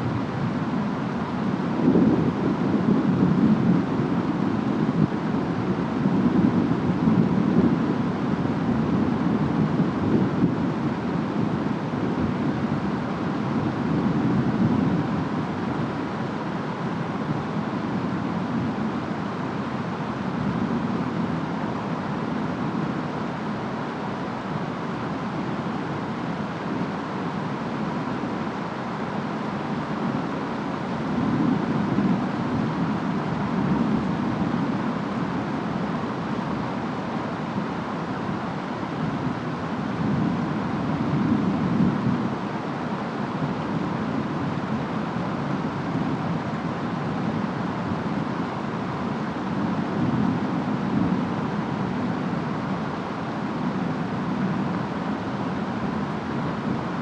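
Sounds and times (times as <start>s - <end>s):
rain and wind rushing: 0.0s - 57.0s.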